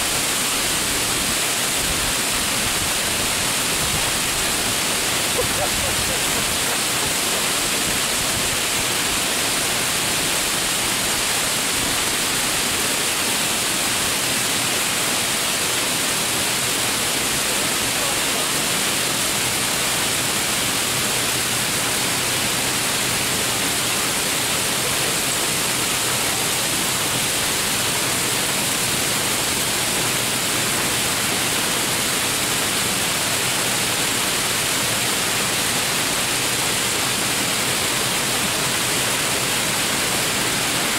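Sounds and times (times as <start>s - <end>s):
torrential rain pouring: 0.0s - 40.9s.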